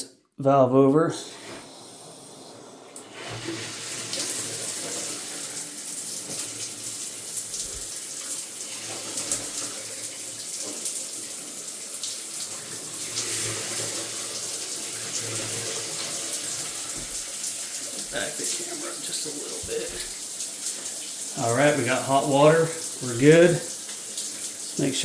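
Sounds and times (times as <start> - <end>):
shower water spraying: 1.2 - 25.0.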